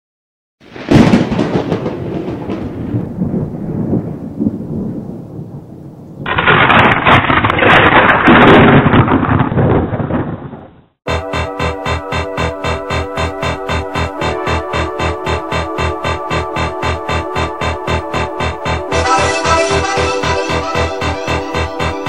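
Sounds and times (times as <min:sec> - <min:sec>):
thunder rumbling: 0:00.7 - 0:19.8.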